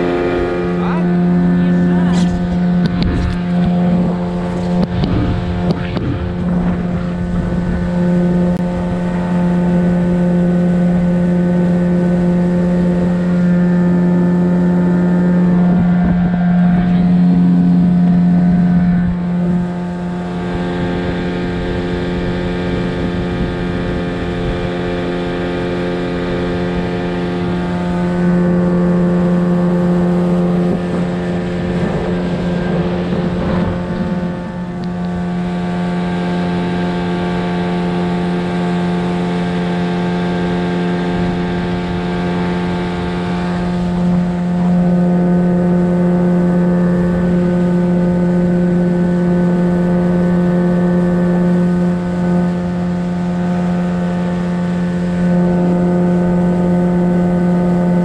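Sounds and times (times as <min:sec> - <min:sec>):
boat motor droning: 0:00.0 - 0:58.0.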